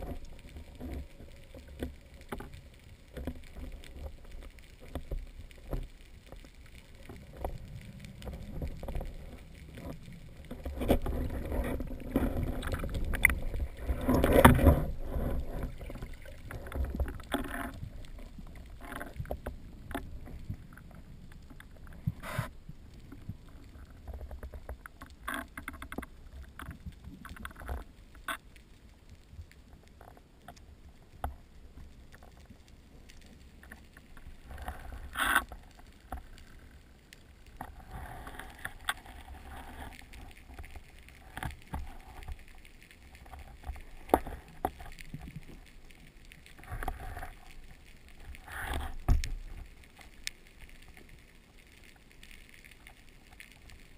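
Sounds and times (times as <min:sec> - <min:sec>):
rushing water underwater: 0:00.0 - 0:53.9.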